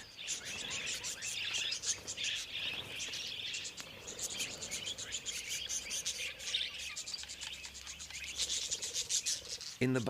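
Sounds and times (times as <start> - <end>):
budgerigars chattering: 0.0 - 10.0.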